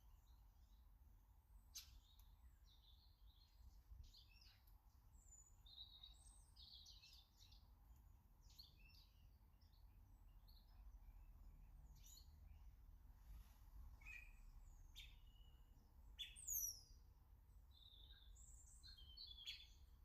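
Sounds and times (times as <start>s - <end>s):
faint songbirds chirping: 0.0s - 20.0s.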